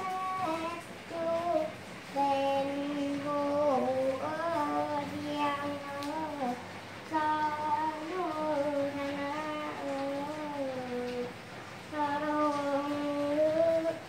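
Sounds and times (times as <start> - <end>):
boy singing long held notes: 0.0 - 14.0.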